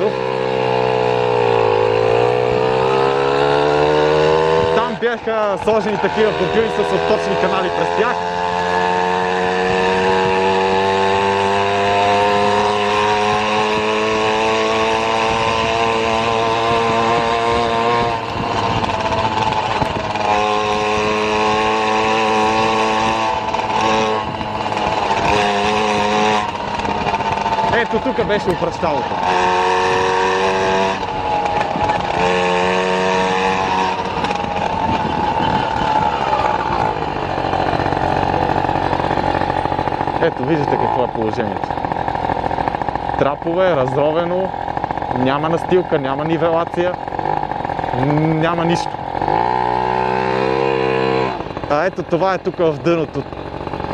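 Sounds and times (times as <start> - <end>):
whining tones: 0.0 - 52.6
engine droning: 0.0 - 53.9.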